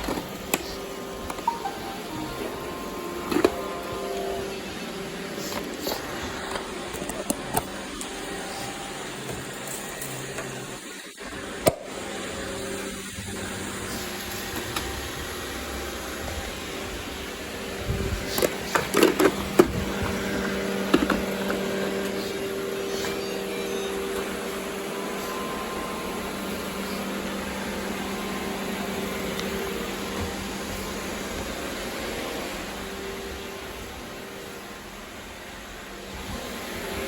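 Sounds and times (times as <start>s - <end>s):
robot vacuum motor hum: 0.0s - 37.0s.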